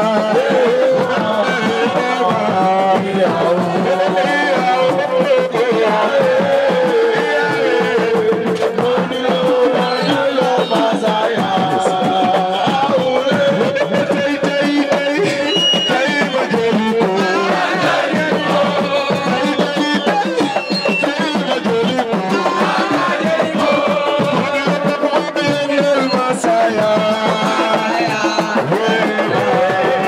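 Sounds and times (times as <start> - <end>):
music with hand drums: 0.0 - 30.0
person singing: 0.0 - 30.0.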